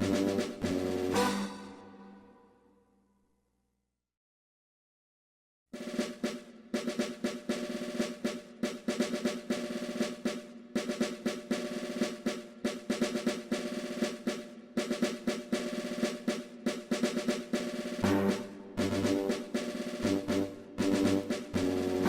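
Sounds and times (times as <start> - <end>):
rolling snare drum: 0.0 - 1.7, 5.8 - 22.0.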